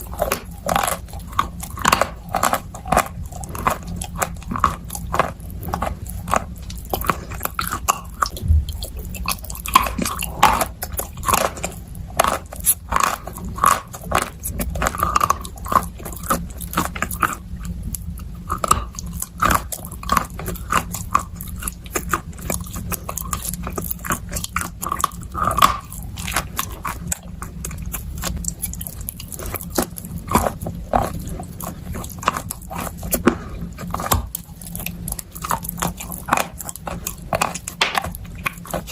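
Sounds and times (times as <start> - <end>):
biting and chewing chalk: 0.0 - 38.9.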